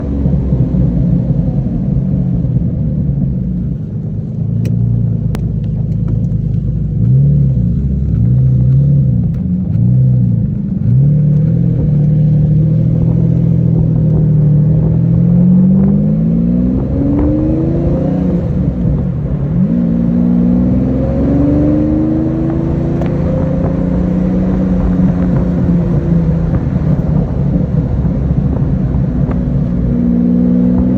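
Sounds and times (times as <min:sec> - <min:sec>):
car engine revving through gears: 0:00.0 - 0:30.9.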